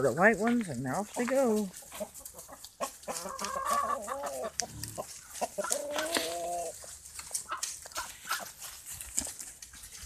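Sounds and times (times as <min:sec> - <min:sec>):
chickens clucking: 0:00.1 - 0:10.0
drawn-out chicken calls: 0:00.9 - 0:10.0.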